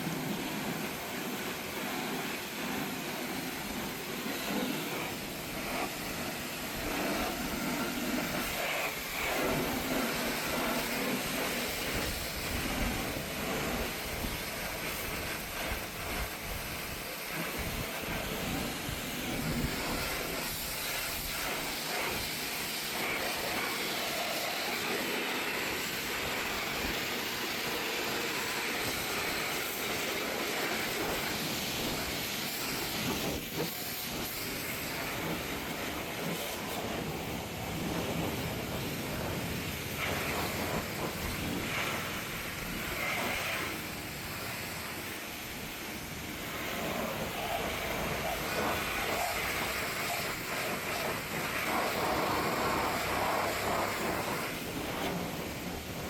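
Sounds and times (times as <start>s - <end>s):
car wash equipment hissing: 0.0s - 56.0s.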